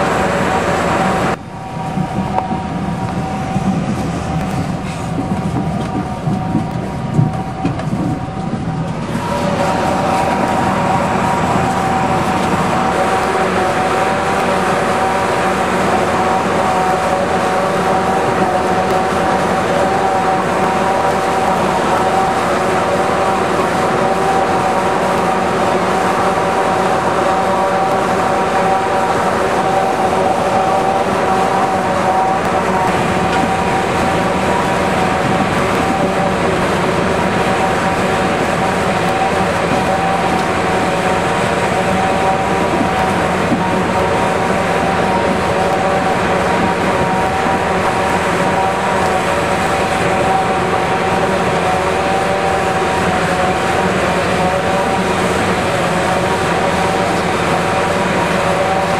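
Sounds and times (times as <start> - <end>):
high machine whine: 0.0 - 58.9
tractor engine: 0.0 - 58.9.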